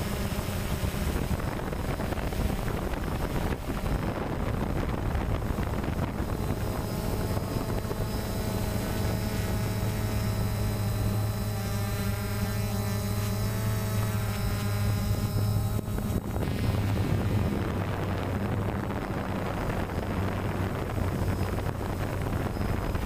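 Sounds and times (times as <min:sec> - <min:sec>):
drone propellers humming: 0:00.0 - 0:23.0
wind on microphone: 0:00.0 - 0:23.0.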